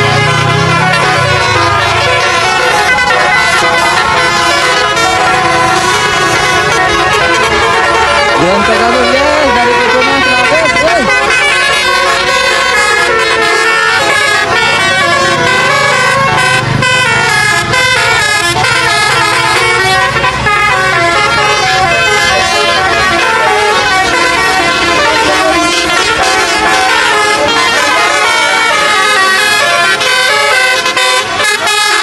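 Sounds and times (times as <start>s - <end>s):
air horns playing a tune: 0.0s - 32.0s.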